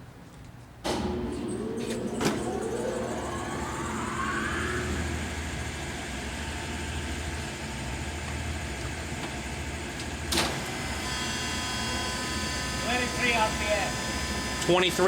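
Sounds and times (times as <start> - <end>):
lathe humming: 0.9 - 15.0.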